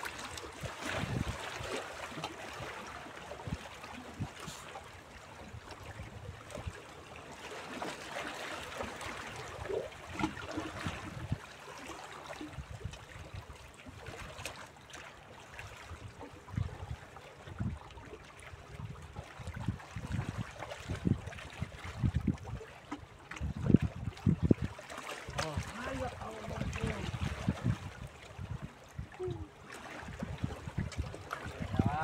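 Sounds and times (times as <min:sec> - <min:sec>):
waves lapping against rocks: 0:00.0 - 0:32.0.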